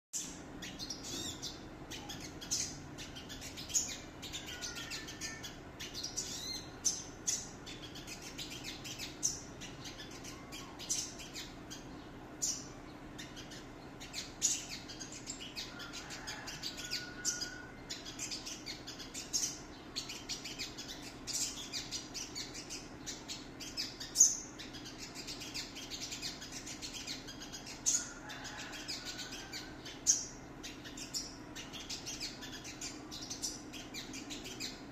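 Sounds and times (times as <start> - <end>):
bird chirping: 0.1 - 34.9.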